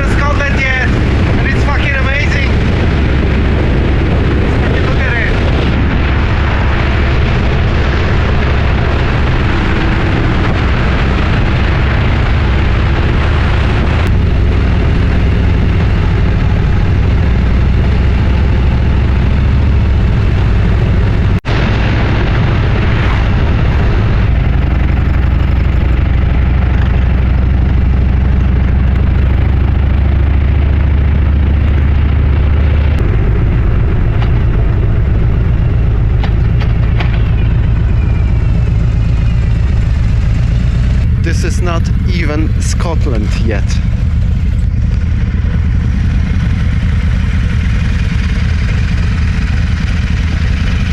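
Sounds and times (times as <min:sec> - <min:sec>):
motorcycle engine running: 0:00.0 - 0:50.9
wind rumble on microphone: 0:00.0 - 0:50.9.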